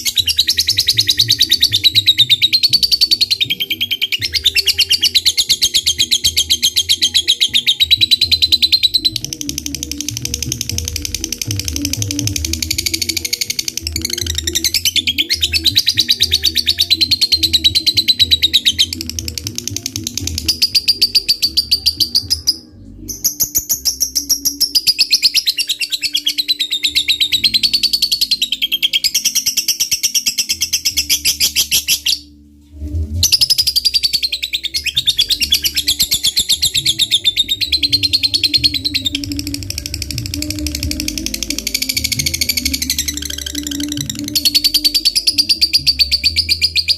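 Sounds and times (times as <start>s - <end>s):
lovebird chattering trill: 0.0s - 32.3s, 33.2s - 46.9s.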